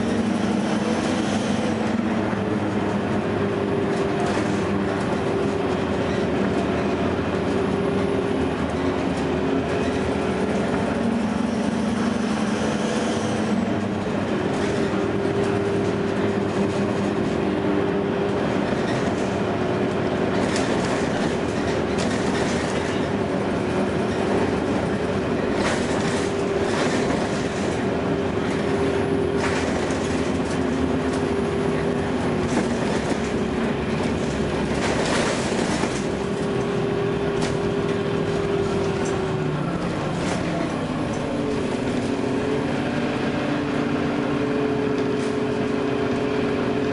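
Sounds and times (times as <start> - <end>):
bus drive whine: 0.0 - 46.9.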